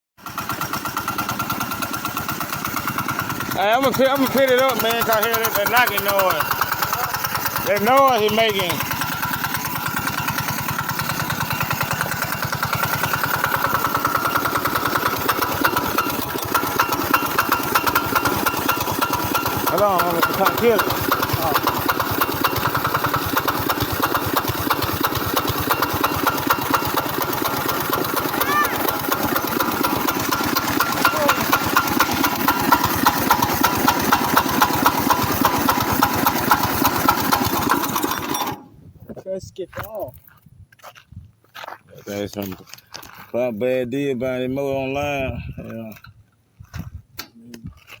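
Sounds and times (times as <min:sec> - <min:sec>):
small engine running: 0:00.2 - 0:38.8.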